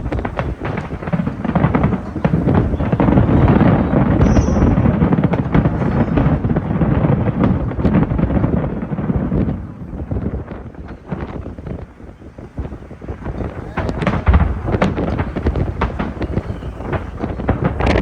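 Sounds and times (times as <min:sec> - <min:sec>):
fireworks cracks and bangs: 0:00.0 - 0:18.0.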